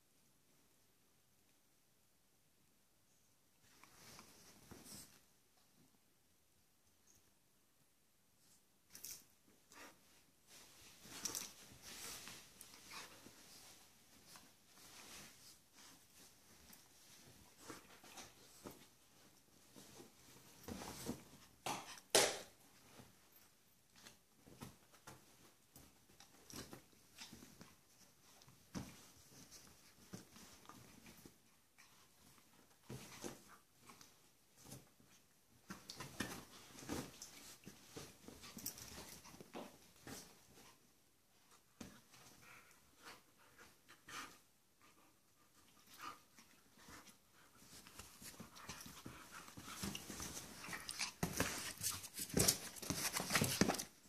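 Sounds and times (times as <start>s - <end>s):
dogs scuffling on bedding: 9.7s - 44.5s, 45.5s - 54.0s.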